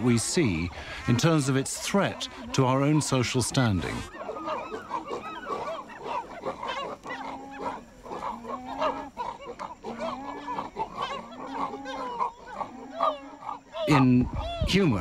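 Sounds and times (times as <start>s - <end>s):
chimpanzees grunting and calling: 0.0s - 15.0s.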